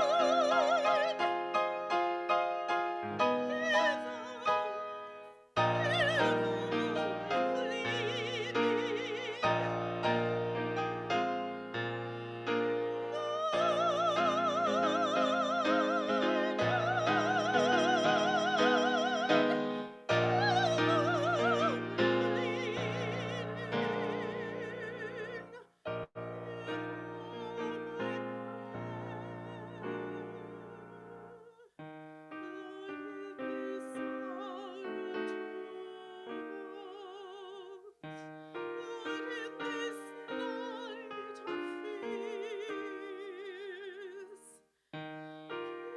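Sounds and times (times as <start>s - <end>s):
piano accompaniment: 0.0s - 44.4s, 45.0s - 45.9s
classical solo singing with vibrato: 0.0s - 45.9s.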